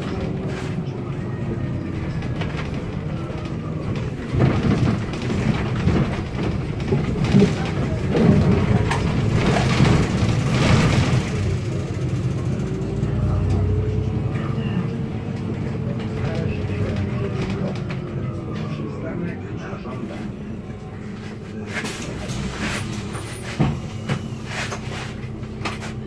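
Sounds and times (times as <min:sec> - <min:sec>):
bus body rattling and knocking: 0:00.0 - 0:26.0
bus engine running: 0:00.0 - 0:26.0.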